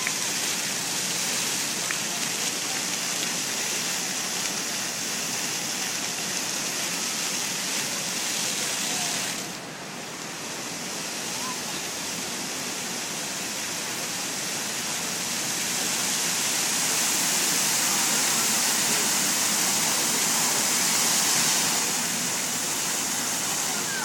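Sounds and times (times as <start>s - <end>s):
fountain jets splashing: 0.0s - 24.0s.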